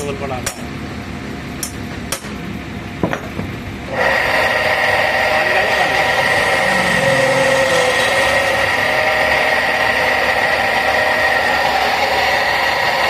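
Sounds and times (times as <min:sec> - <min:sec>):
workshop machine whining: 0:00.0 - 0:13.0.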